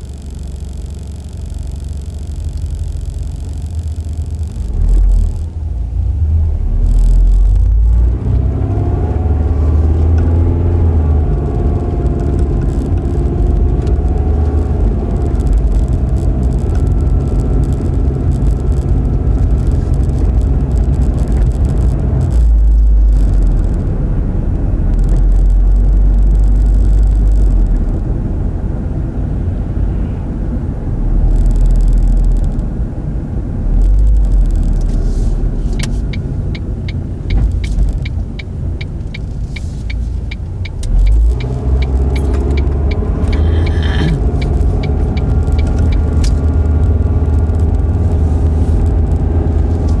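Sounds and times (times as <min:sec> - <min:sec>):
turn signal ticking: 0:00.0 - 0:05.6, 0:06.8 - 0:28.1, 0:33.7 - 0:50.0
road and engine rumble: 0:00.0 - 0:50.0.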